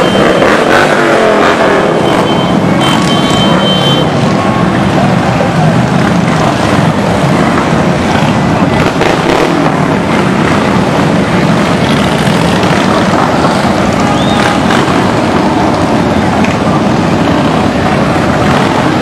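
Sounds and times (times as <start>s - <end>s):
motorcycle engines riding past: 0.0s - 19.0s.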